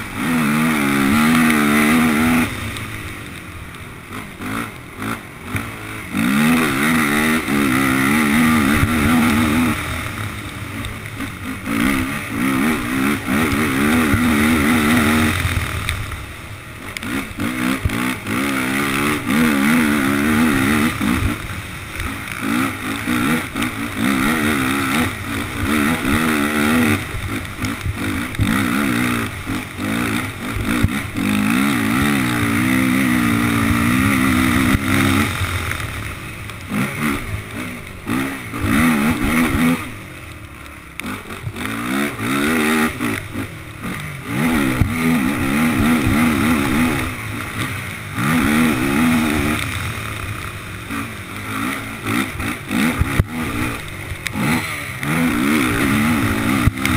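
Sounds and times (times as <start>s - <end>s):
quad engine revving: 0.0s - 56.9s.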